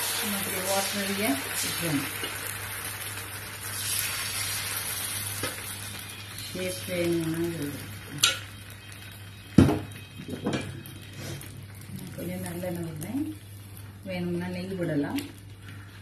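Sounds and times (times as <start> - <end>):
batter sizzling on hot griddle: 0.0 - 16.0.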